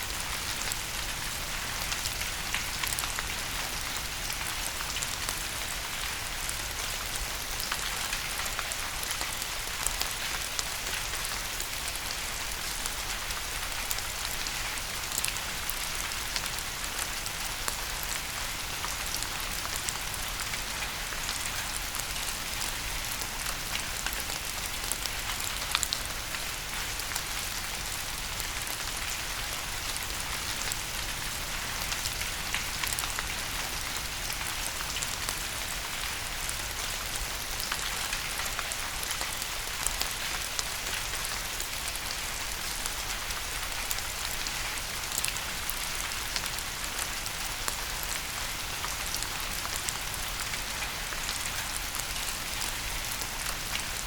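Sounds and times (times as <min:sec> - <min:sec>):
steady rain: 0:00.0 - 0:54.0
raindrops ticking on a surface: 0:00.2 - 0:54.0.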